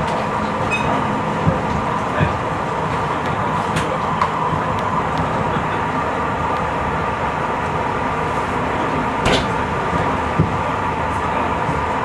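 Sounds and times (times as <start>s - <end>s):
constant hum: 0.0s - 12.0s
train wheels rumbling on rail: 0.0s - 12.0s.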